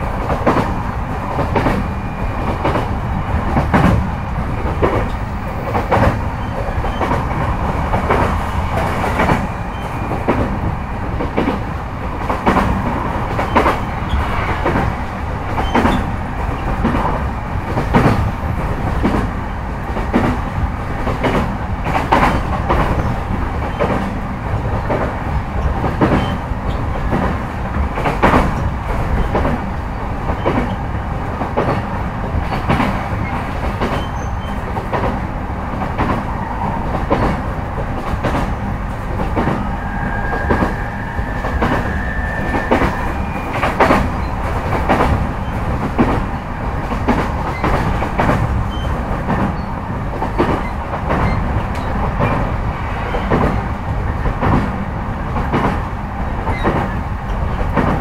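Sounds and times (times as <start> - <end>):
wheels rumbling on rail: 0.0 - 58.0
clacks over rail joints: 0.2 - 20.4, 21.0 - 40.8, 42.6 - 58.0.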